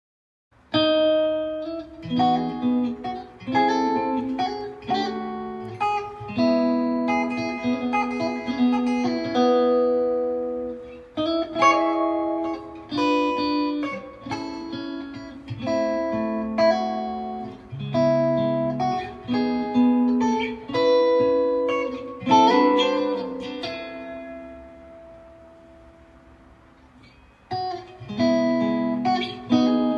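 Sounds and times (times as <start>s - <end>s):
guitar plucked notes: 0.6s - 29.9s.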